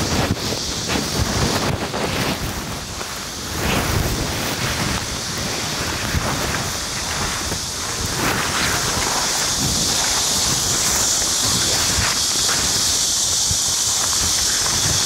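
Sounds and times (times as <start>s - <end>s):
corn leaves rustling: 0.0s - 15.0s
wind buffeting microphone: 0.0s - 15.0s.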